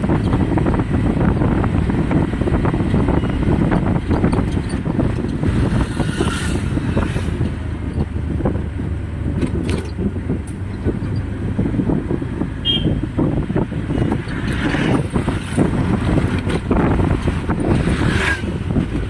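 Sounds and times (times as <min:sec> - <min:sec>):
road vehicle rumble: 0:00.0 - 0:19.0
wind buffeting microphone: 0:00.0 - 0:19.0.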